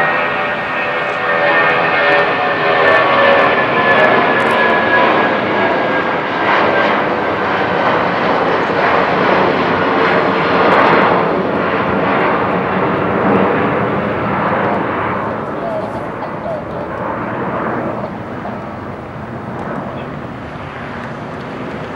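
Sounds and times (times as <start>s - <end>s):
jet engine fan whine: 0.0s - 21.9s
loud jet roar: 0.0s - 21.9s.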